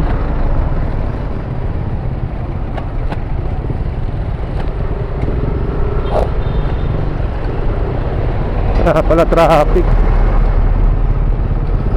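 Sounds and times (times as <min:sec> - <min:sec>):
scooter engine and road rumble: 0:00.0 - 0:11.9.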